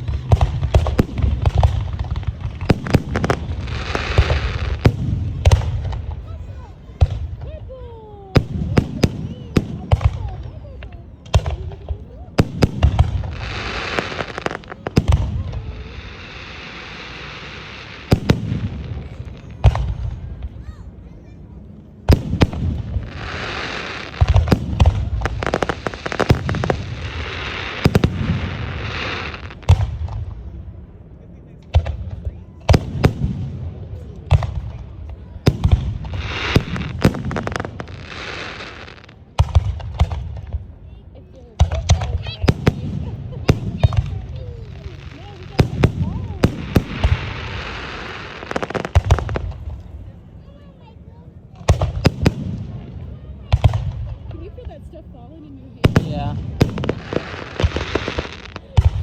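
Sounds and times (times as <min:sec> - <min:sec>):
hissing firework burst: 0:00.0 - 0:20.6, 0:22.1 - 0:30.4, 0:31.8 - 0:40.8, 0:41.6 - 0:50.1, 0:55.8 - 0:59.0
firework bangs: 0:00.0 - 0:31.0, 0:31.6 - 0:54.8, 0:55.8 - 0:59.0.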